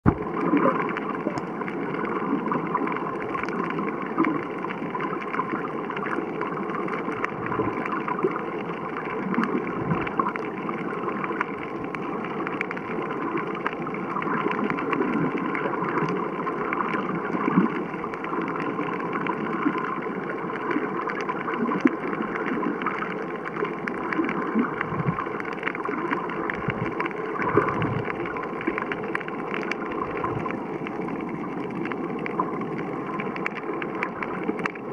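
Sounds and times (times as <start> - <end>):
faint underwater crackles: 0.0 - 34.9
underwater watery rush: 0.0 - 34.9.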